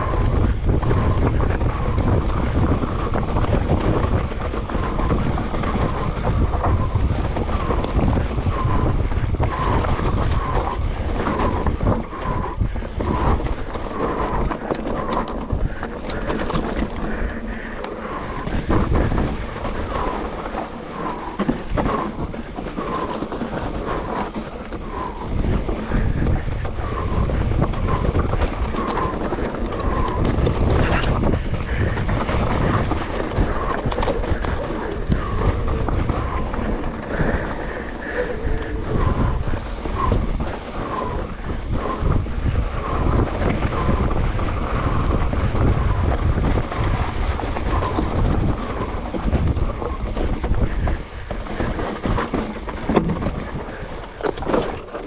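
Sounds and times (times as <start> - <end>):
bike rattling: 0.0 - 55.0
wind buffeting microphone: 0.0 - 55.0.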